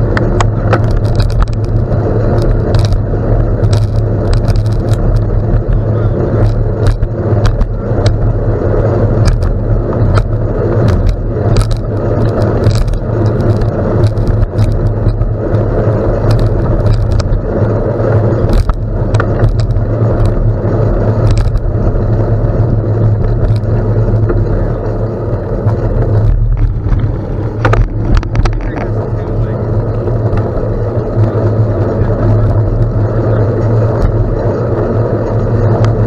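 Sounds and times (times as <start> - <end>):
bike tyres rumbling on gravel: 0.0 - 36.0
stones and bike clicking and rattling: 0.0 - 36.0
wind: 0.0 - 36.0.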